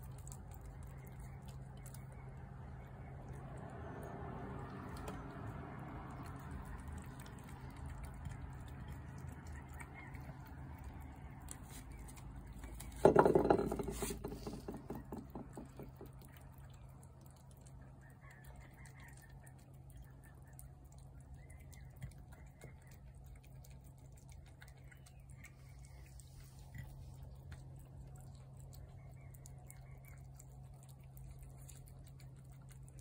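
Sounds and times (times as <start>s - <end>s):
cats chewing and lapping: 0.0s - 33.0s.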